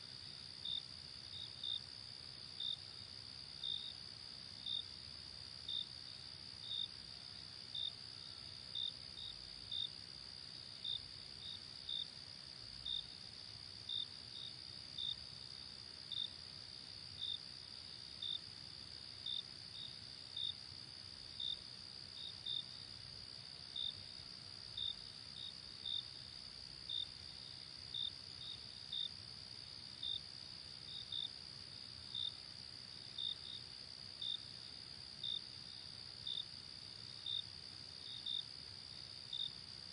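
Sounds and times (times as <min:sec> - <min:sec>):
cricket chirp: 0:00.0 - 0:39.9
faint low hiss: 0:00.0 - 0:39.9.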